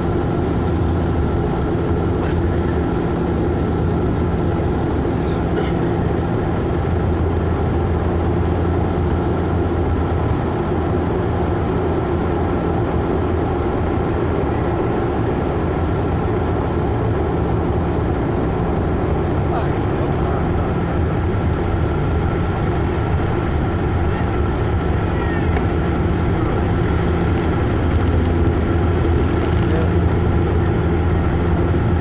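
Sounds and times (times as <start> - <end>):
airliner cabin propeller drone: 0.0 - 32.0.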